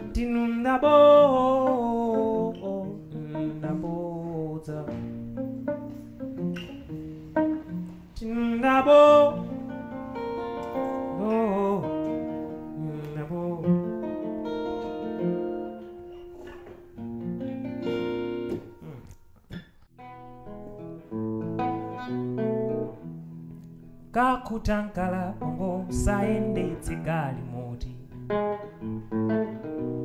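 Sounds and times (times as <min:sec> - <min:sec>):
acoustic guitar melody: 0:00.0 - 0:30.0.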